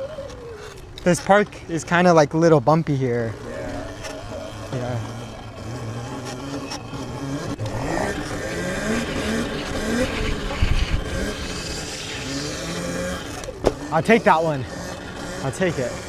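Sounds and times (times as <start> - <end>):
electric dirt bike motor whine: 3.0 - 16.0.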